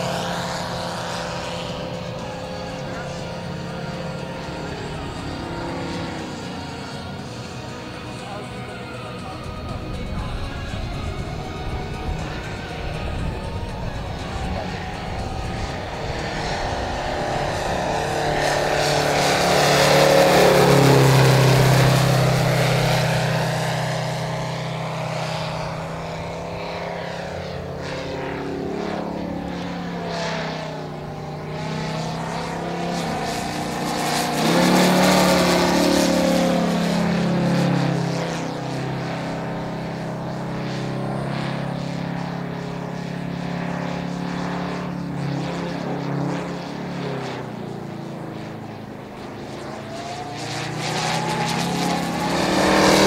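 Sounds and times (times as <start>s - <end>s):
model aeroplane engine in flight: 0.0s - 53.0s.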